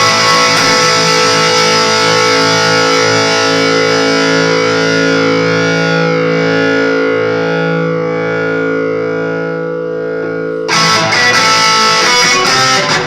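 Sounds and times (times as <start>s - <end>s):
overdriven electric guitar chord: 0.0s - 13.0s.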